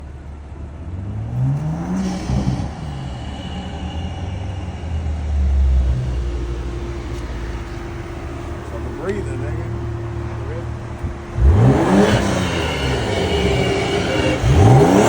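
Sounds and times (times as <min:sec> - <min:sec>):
car engine revving: 0:00.0 - 0:15.0
low exhaust rumble: 0:00.0 - 0:15.0.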